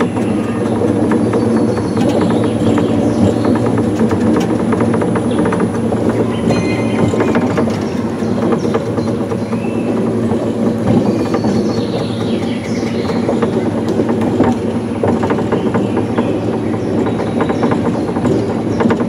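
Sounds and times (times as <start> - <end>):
monorail car running on track: 0.0 - 19.0.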